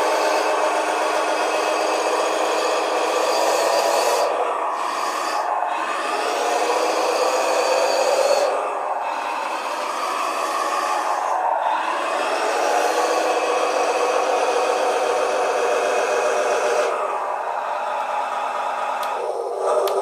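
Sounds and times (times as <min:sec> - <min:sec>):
simulated engine sound: 0:00.0 - 0:20.0.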